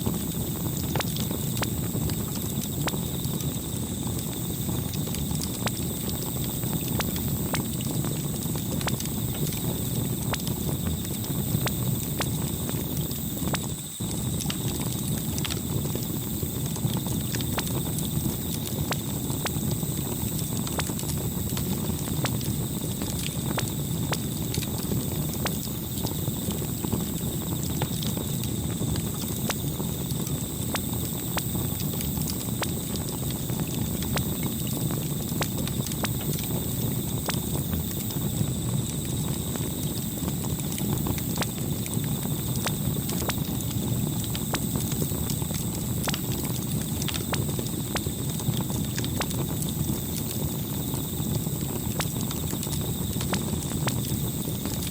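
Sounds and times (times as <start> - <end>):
low rumble of flame: 0.0 - 54.9.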